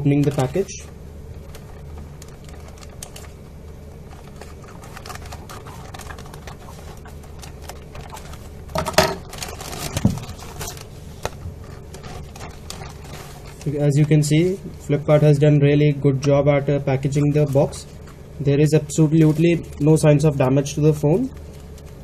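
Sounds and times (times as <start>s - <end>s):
plastic bag crackling: 0.0s - 15.4s, 17.0s - 22.0s.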